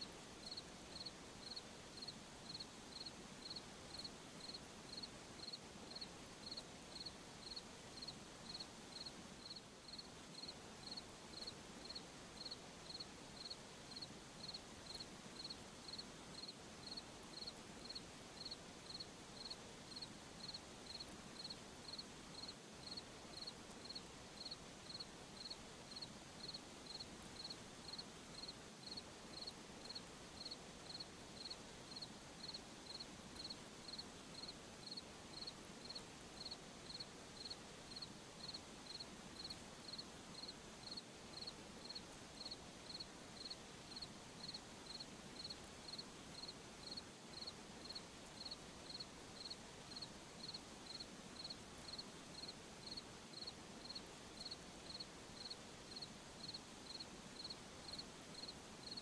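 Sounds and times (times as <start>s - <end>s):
faint night ambience hiss: 0.0s - 59.0s
cricket chirping: 0.4s - 59.0s.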